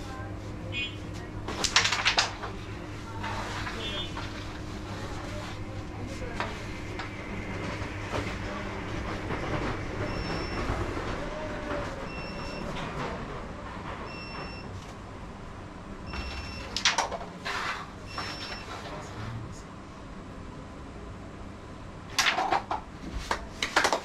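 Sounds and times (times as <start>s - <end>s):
low room murmur: 0.0s - 24.0s.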